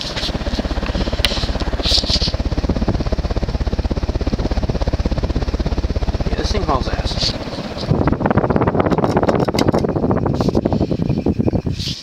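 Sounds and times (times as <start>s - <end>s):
air buffeting microphone: 0.0s - 12.0s
ceiling fan running: 0.0s - 12.0s.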